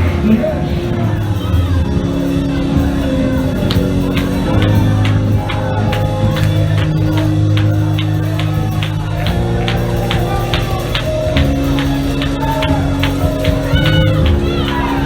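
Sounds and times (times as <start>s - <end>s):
congregation shouting: 0.0s - 15.0s
keyboard chords: 0.0s - 15.0s
quick steady drum beat: 2.0s - 15.0s.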